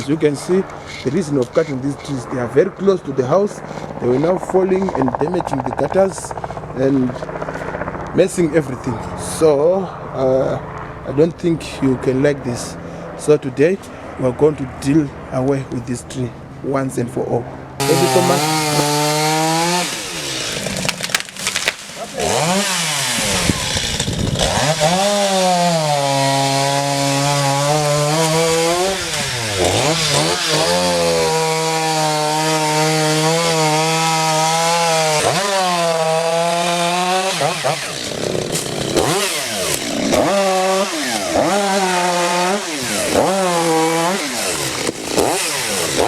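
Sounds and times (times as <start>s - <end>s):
chainsaw cutting wood: 0.0s - 9.2s, 17.8s - 46.0s.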